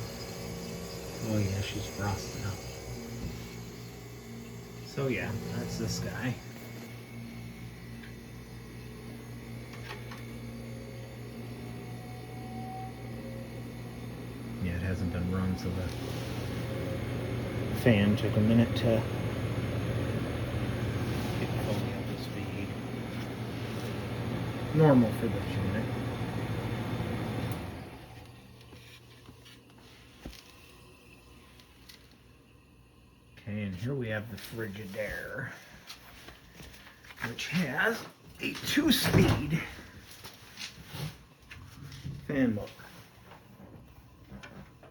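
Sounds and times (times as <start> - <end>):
dehumidifier humming: 0.0 - 44.9.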